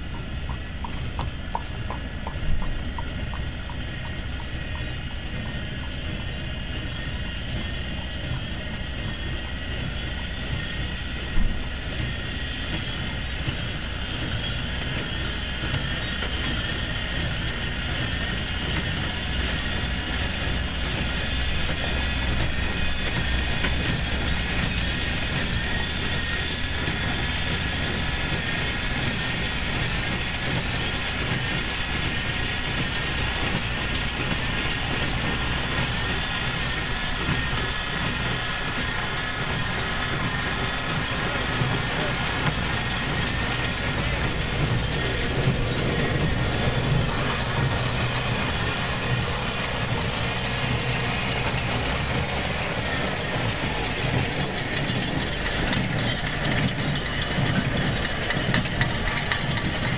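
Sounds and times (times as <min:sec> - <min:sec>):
hay baler mechanical clatter: 0:00.0 - 0:59.9.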